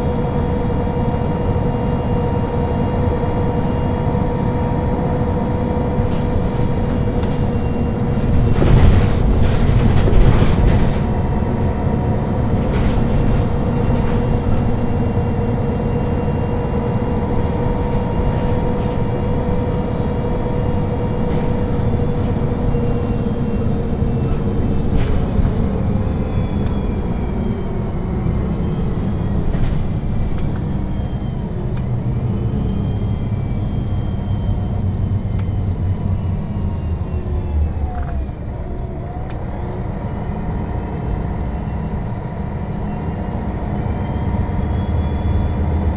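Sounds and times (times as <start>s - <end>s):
bus diesel engine whining: 0.0s - 45.9s.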